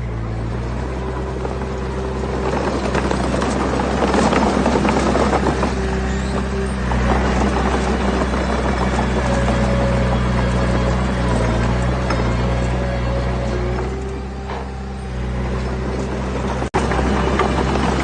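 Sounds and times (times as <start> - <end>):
heavy machinery diesel engine: 0.0 - 18.0
stones tumbling and grinding: 0.4 - 18.0.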